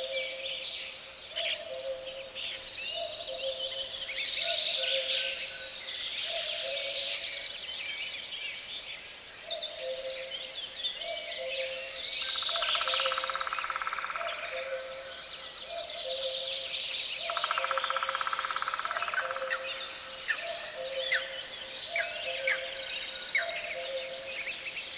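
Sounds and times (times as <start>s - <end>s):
birds chirping and trilling: 0.0s - 24.9s.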